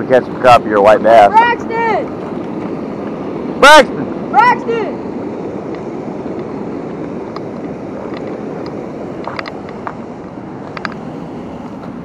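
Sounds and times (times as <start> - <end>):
river water rushing over dam: 0.0 - 12.0
wind on microphone: 0.0 - 12.0.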